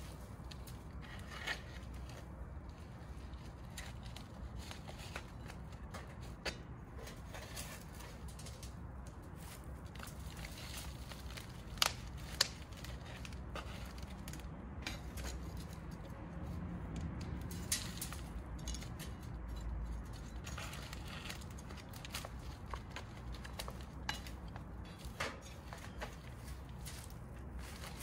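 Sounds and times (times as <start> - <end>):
plastic pot rustling and crinkling: 0.0 - 28.0.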